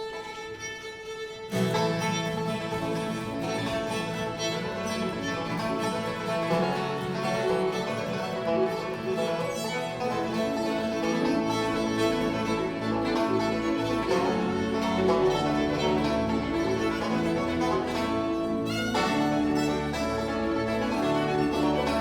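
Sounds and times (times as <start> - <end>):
fiddle: 0.0 - 22.0
acoustic guitar strummed and picked: 1.4 - 22.0.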